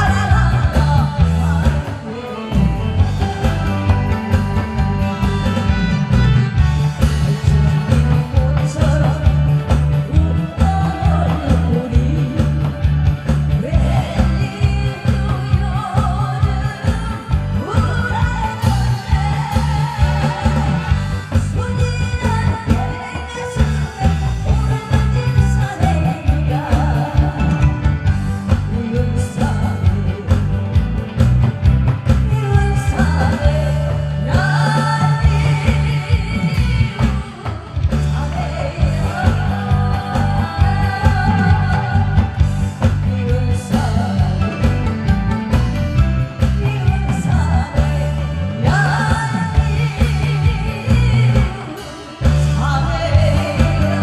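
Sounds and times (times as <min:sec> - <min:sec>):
woman singing: 0:00.0 - 0:30.9, 0:32.2 - 0:45.2, 0:46.3 - 0:54.0
music with driving beat: 0:00.0 - 0:54.0.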